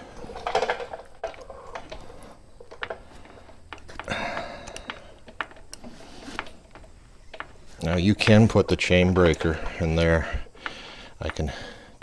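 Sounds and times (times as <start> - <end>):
tool rustling: 0.0 - 12.0.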